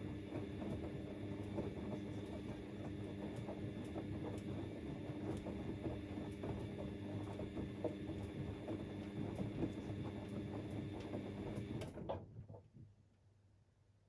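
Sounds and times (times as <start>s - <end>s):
washing machine motor hum: 0.0s - 13.1s.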